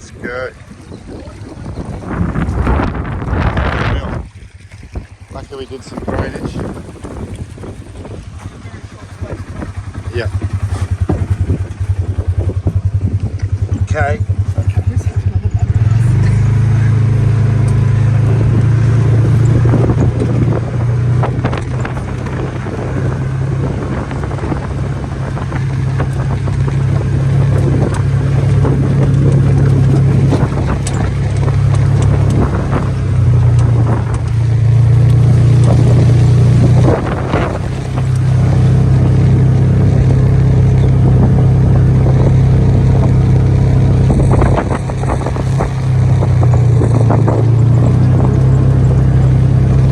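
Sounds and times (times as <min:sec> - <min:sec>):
vehicle engine droning: 0:00.0 - 0:49.9.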